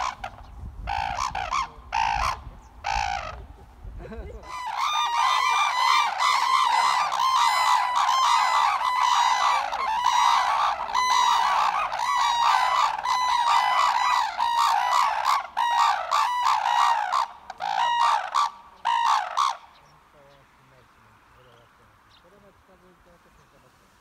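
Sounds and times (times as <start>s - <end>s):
cranes trumpeting: 0.0s - 3.7s, 4.4s - 20.3s.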